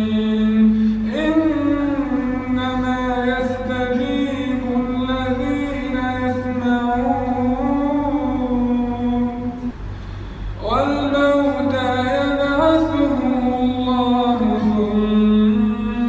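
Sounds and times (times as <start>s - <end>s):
man chanting melodically: 0.0s - 9.8s, 10.5s - 16.0s.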